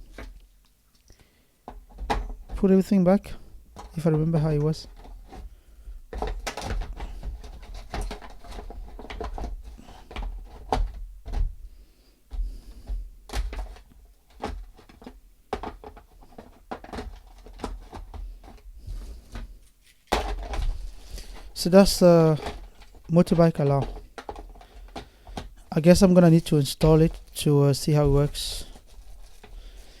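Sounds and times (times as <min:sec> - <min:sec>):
packing clicks knocks and rustles: 0:00.0 - 0:11.7, 0:12.3 - 0:30.0.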